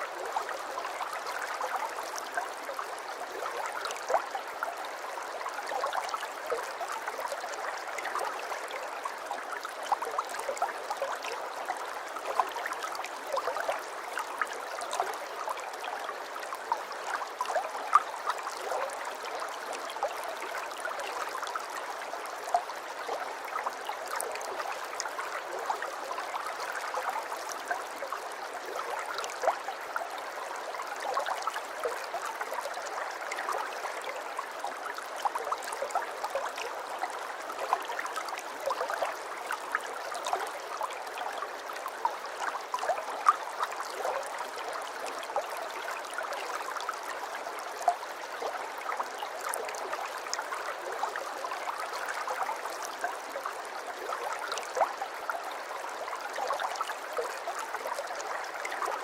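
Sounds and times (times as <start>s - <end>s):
water trickling and gurgling: 0.0s - 59.0s.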